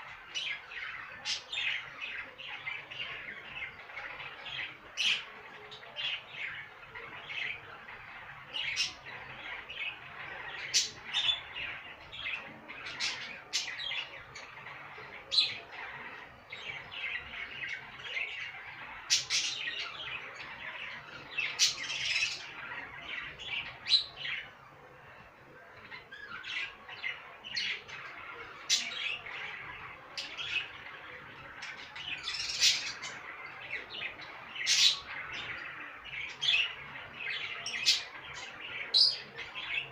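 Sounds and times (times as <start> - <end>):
budgerigars chattering: 0.0 - 24.5, 25.7 - 39.9.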